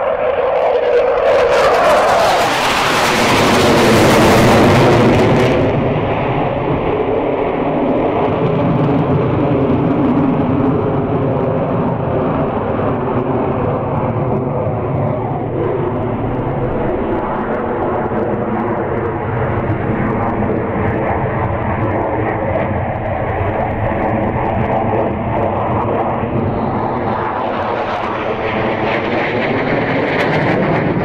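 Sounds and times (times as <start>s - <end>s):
jet engine roar: 0.0s - 31.0s
jet engine rumble with whine: 0.0s - 31.0s.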